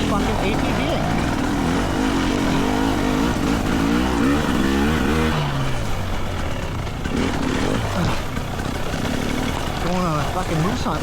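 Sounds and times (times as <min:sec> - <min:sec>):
two-stroke engine revving: 0:00.0 - 0:11.0.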